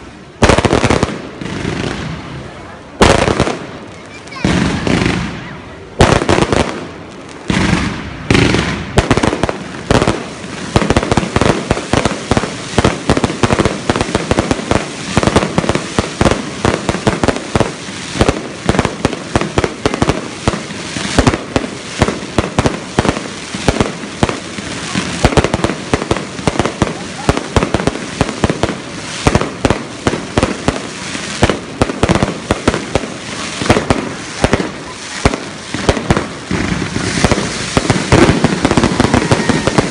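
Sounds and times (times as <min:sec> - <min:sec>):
fireworks bangs and crackles: 0:00.0 - 0:39.9
loud single firework bangs: 0:03.0 - 0:39.9.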